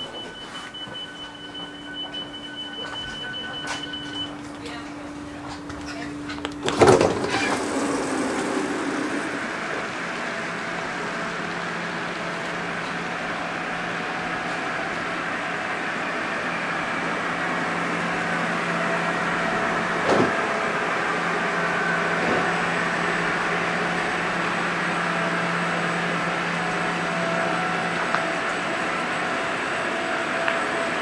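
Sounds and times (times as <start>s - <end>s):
train interior rumble: 0.0s - 31.0s.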